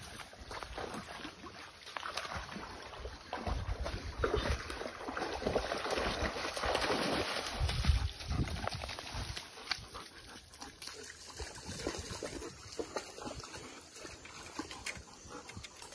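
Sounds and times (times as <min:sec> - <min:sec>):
dogs splashing through water: 0:00.0 - 0:15.9.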